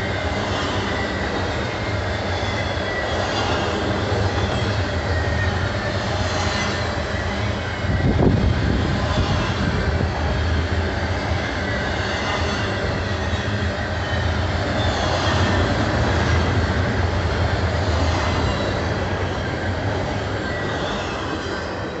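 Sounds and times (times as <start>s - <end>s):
freight train wheels rumbling: 0.0s - 22.0s
high wheel squeal: 0.0s - 22.0s.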